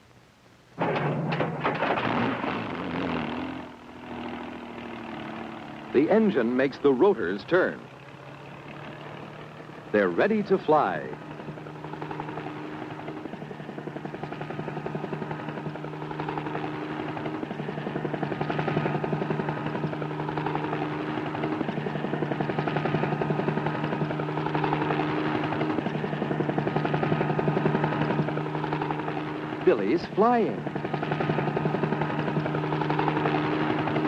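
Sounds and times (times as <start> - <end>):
helicopter engine and rotors: 0.8 - 34.0.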